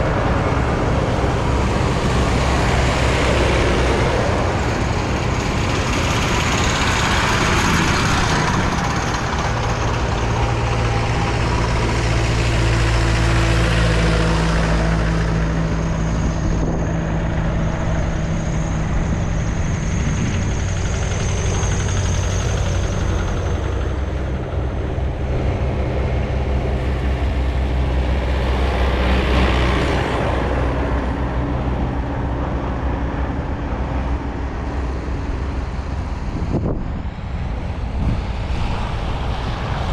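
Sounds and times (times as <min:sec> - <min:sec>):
diesel tractor engines running: 0:00.0 - 0:39.9.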